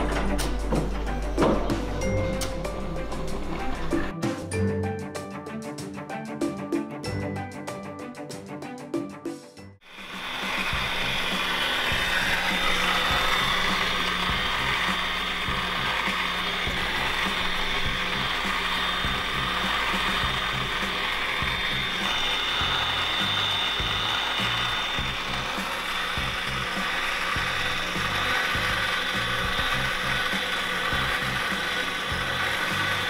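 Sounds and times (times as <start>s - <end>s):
mixer running with rattle and whine: 0.0s - 4.1s, 9.8s - 33.0s.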